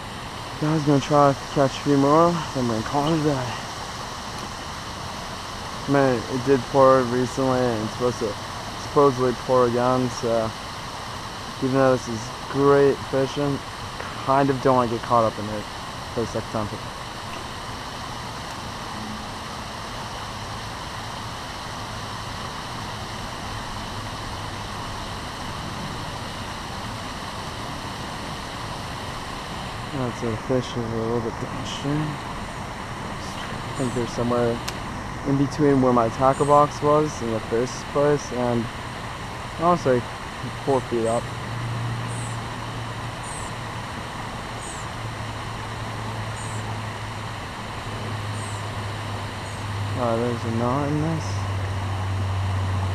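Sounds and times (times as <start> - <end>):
low steady hum: 0.0 - 52.9
river water flowing: 0.0 - 52.9.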